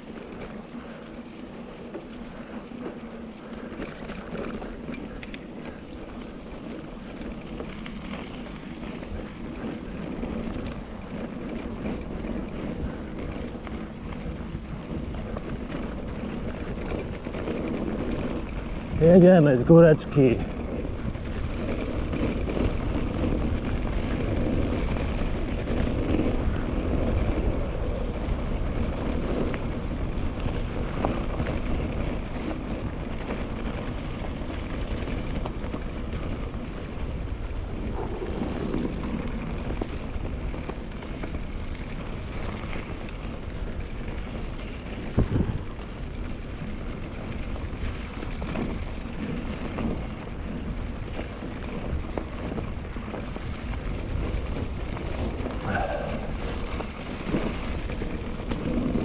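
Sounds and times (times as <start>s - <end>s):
bike tyres rolling on dirt: 0.0s - 59.0s
wind rushing on microphone: 9.2s - 59.0s.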